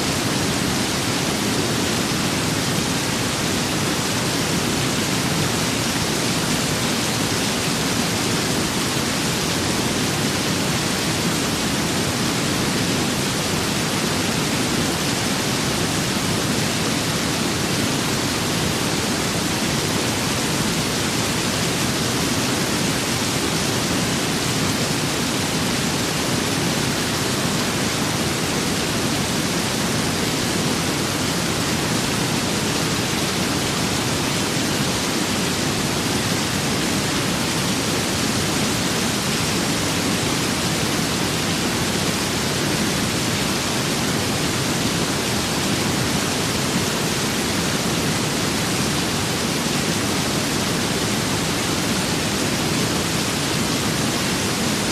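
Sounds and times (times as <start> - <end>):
rain and wind hiss: 0.0 - 54.9.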